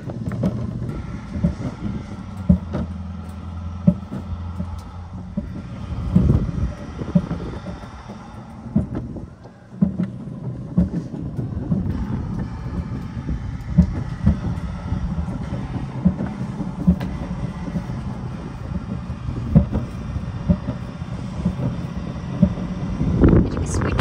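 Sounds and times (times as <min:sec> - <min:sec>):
clunks over track joints: 0:00.0 - 0:24.0
wheels rumbling on rails: 0:00.0 - 0:24.0.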